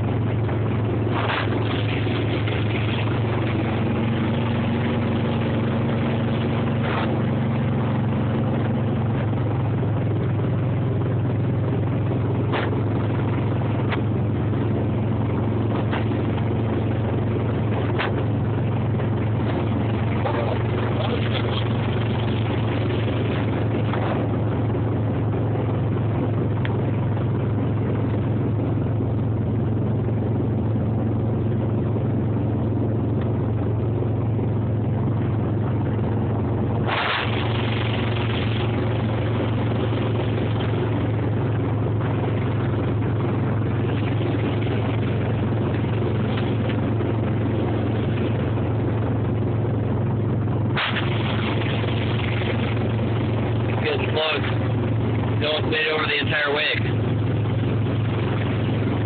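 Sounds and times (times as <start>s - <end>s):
water rushing: 0.0s - 28.3s, 36.8s - 50.0s, 50.6s - 59.0s
motorboat engine droning: 0.0s - 59.0s
wind: 0.0s - 59.0s.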